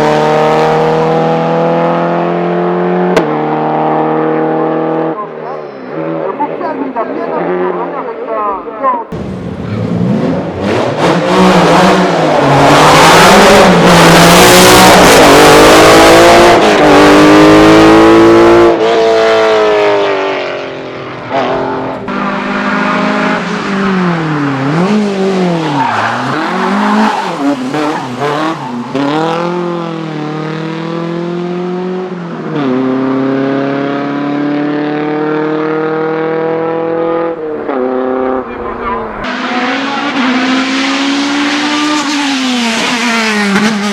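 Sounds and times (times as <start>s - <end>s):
race car engine at full throttle: 0.0s - 8.3s, 9.1s - 43.9s.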